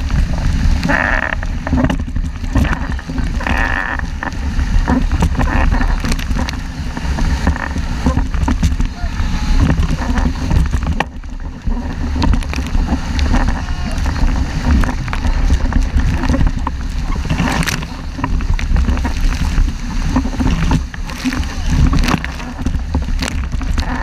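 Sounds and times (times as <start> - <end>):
water splashing against hull: 0.0 - 24.0
wind buffeting microphone: 0.0 - 24.0.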